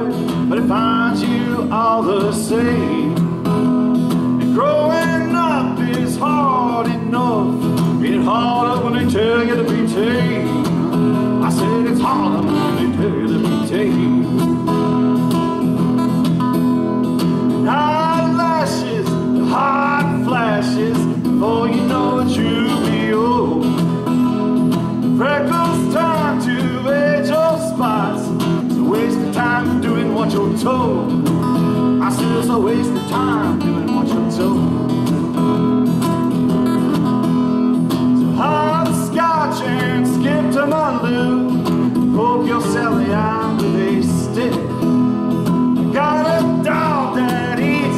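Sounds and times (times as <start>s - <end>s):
acoustic guitars strumming: 0.0s - 47.9s.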